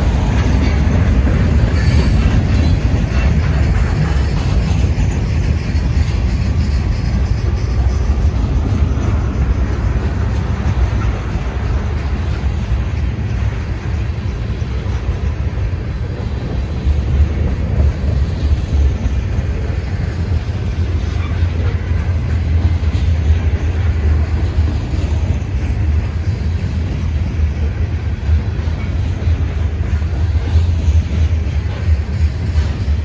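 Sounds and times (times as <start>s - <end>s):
freight train rumbling: 0.0s - 33.0s.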